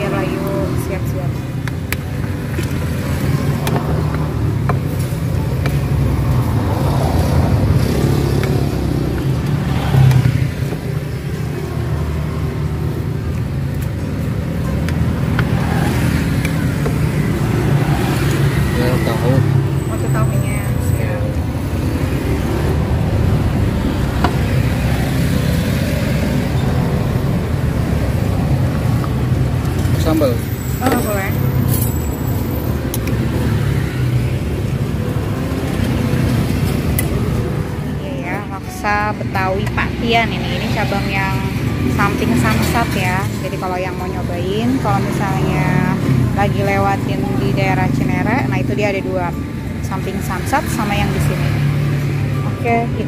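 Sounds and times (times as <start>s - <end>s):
low rumble of motor traffic: 0.0s - 53.0s.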